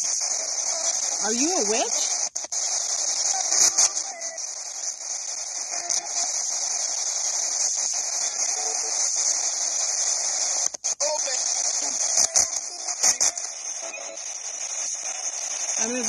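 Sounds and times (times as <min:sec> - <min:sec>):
faint snatches of radio sound: 0:00.0 - 0:16.0
radio static hiss: 0:00.0 - 0:16.0.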